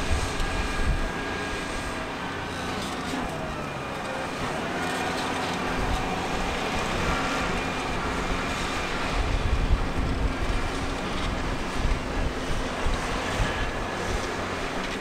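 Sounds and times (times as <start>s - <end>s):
tractor diesel engines running: 0.0s - 15.0s.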